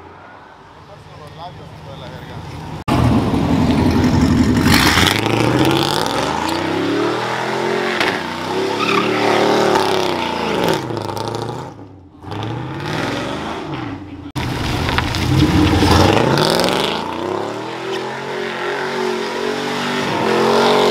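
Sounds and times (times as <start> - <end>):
truck engine revving: 2.8 - 20.9.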